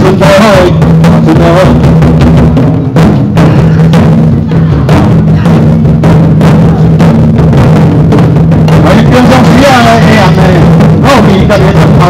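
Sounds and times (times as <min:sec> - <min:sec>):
taiko drums beating: 0:00.0 - 0:12.0.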